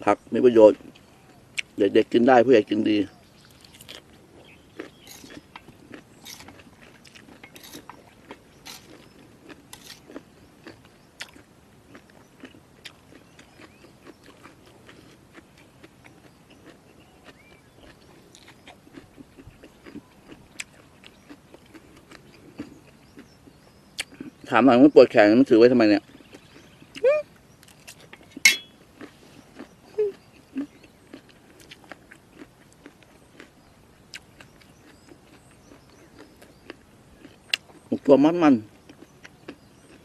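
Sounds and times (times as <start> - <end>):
person chewing crunchy food: 3.3 - 24.5, 26.0 - 40.0.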